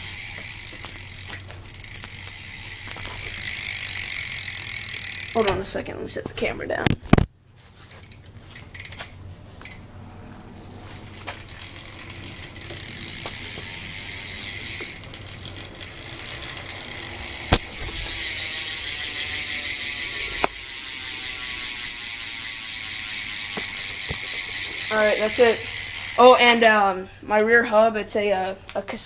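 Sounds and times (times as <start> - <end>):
bicycle hub ratchet clicking: 0.0 - 5.6, 7.8 - 9.8, 11.0 - 26.9.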